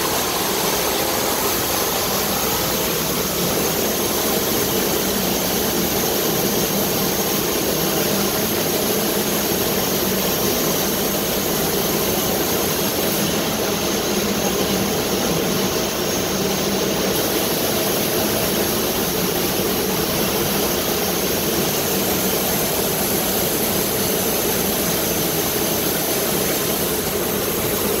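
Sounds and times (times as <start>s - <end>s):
laser cutter machine rush: 0.0s - 28.0s.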